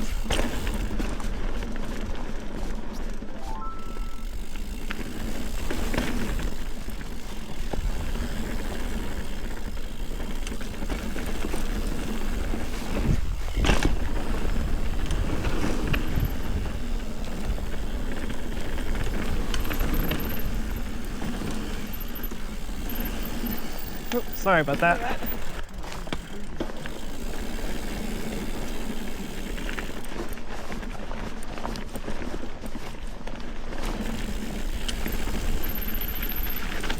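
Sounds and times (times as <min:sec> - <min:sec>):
bike rattling: 0:00.0 - 0:03.4, 0:04.1 - 0:36.9
tyres rolling over dirt: 0:04.2 - 0:36.9.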